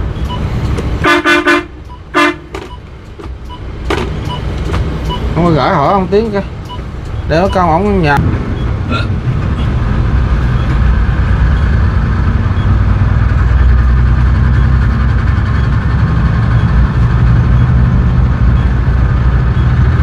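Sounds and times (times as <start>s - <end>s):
road noise: 0.0s - 20.0s
vehicle engine running: 0.0s - 20.0s.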